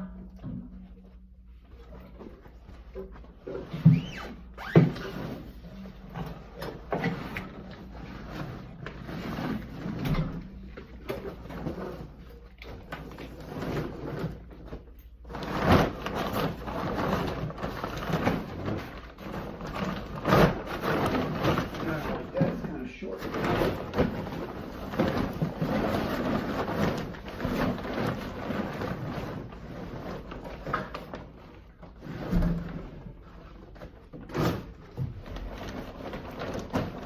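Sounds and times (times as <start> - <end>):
water heater scraping on stairs: 1.8 - 37.0.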